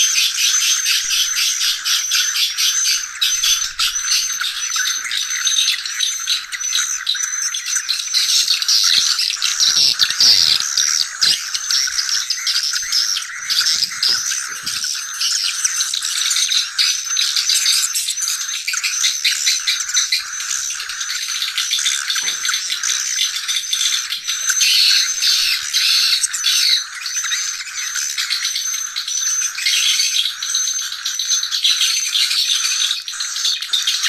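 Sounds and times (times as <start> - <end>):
swiftlets twittering: 0.0 - 34.0.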